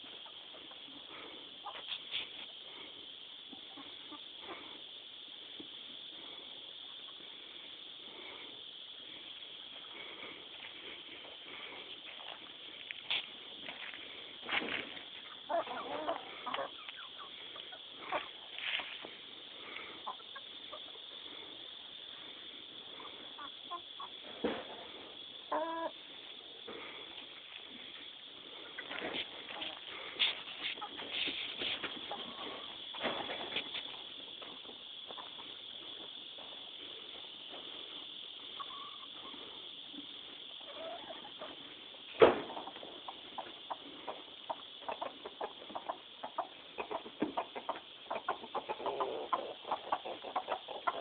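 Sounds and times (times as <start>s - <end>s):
hens clucking: 0.0s - 7.9s, 8.6s - 51.0s
steady high hiss: 0.0s - 51.0s.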